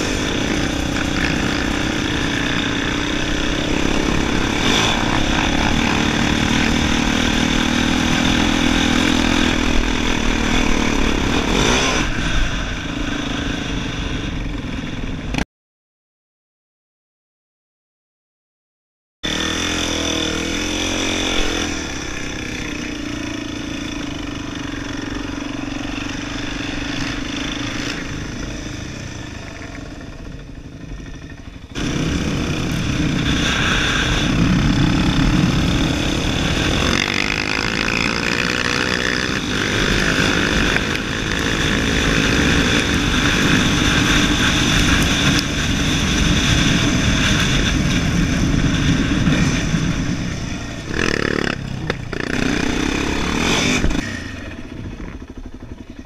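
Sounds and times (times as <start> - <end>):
quad bike engine: 0.0 - 15.4, 19.2 - 56.0.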